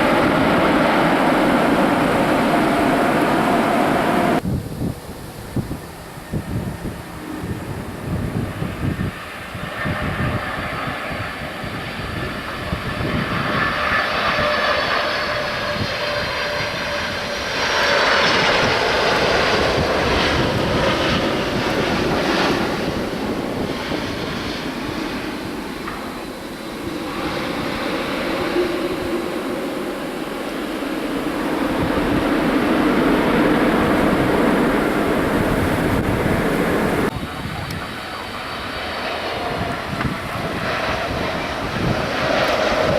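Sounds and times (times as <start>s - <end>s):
jet airliner engines passing: 0.0s - 42.9s.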